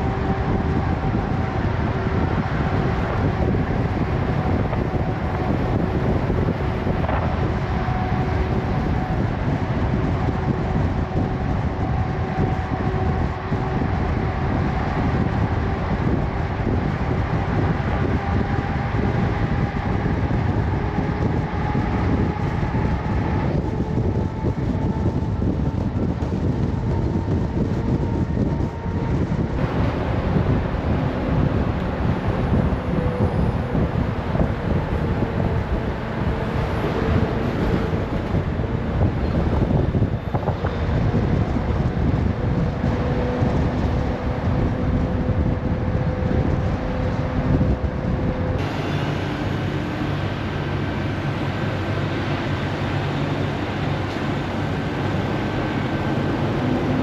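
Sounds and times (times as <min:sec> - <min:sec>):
road and wind noise: 0:00.0 - 0:57.0
truck engine drone: 0:00.0 - 0:57.0.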